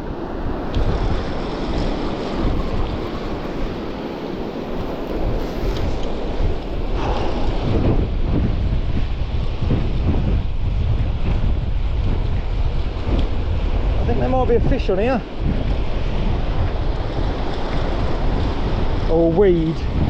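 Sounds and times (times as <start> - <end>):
rough surf breaking: 0.0 - 20.0
strong wind buffeting microphone: 0.0 - 20.0.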